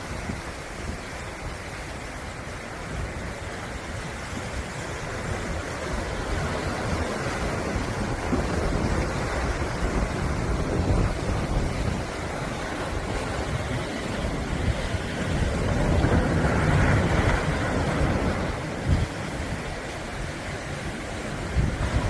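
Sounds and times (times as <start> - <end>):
sea waves washing ashore: 0.0 - 22.0
wind buffeting microphone: 0.0 - 22.0.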